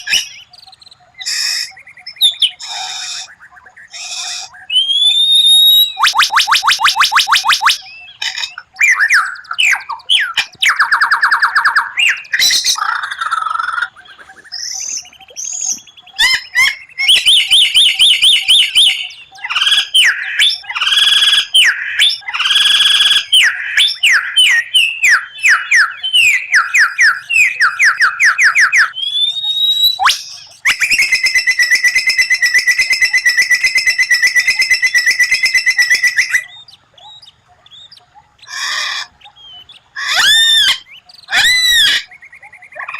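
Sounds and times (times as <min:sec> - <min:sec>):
bird singing whistled trills: 0:00.0 - 0:42.9.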